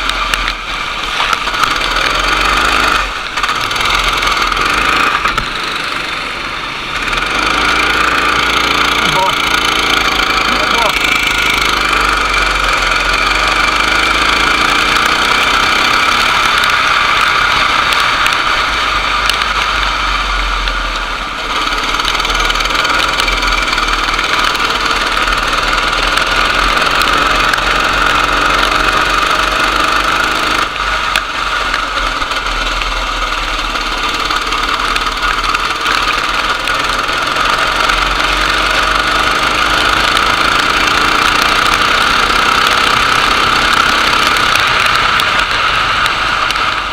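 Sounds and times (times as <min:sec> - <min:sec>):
racing kart engine whine: 0:00.0 - 0:46.9.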